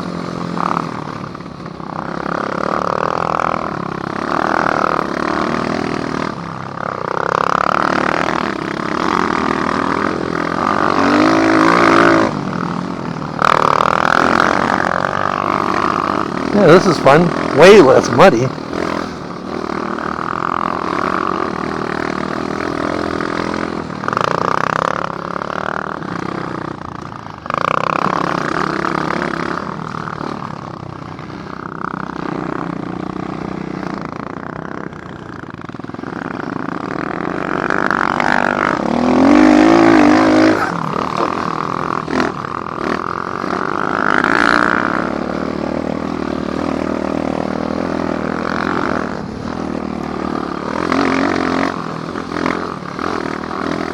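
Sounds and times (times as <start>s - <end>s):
dirt bike engine revving: 0.0s - 30.6s, 31.2s - 53.9s.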